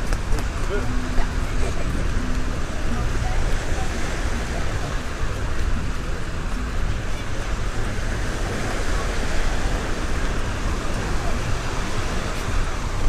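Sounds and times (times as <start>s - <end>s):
sea surf washing: 0.0s - 13.0s
wind rumbling on microphone: 0.0s - 13.0s.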